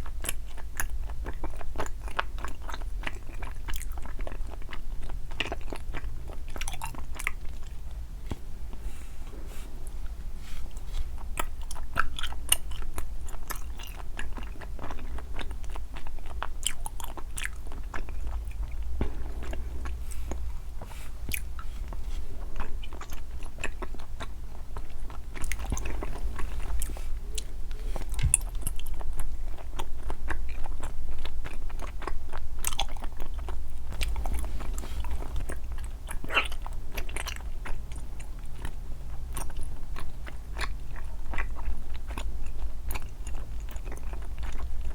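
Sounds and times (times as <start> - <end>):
chewing sweets close up: 0.0 - 44.9.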